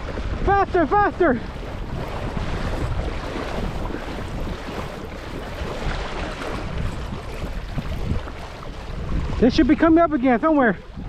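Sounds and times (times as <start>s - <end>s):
water splashing around kayak: 0.0s - 11.0s
wind buffeting microphone: 0.0s - 11.0s.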